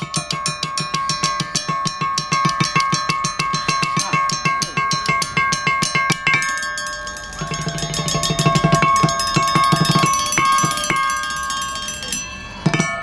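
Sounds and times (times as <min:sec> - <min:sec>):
metal tubes struck with sticks: 0:00.0 - 0:13.0.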